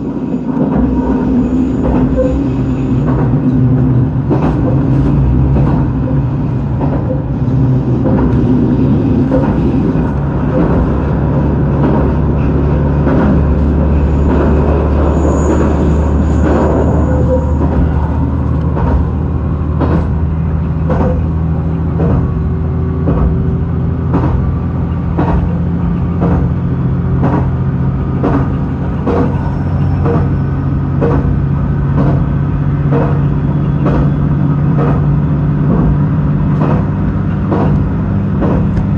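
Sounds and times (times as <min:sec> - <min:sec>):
diesel engine drone: 0:00.0 - 0:38.9
wheels clicking over rail joints: 0:00.0 - 0:38.9.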